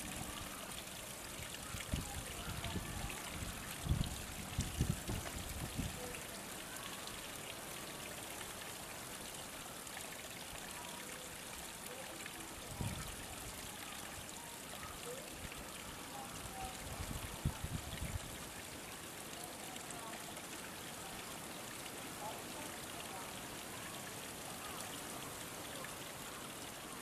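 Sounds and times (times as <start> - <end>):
running water trickling: 0.0 - 27.0.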